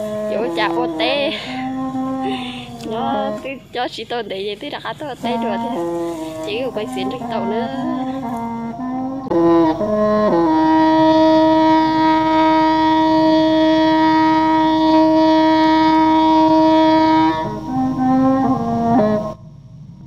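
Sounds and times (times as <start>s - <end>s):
wind instrument playing: 0.0s - 3.8s, 5.0s - 19.4s.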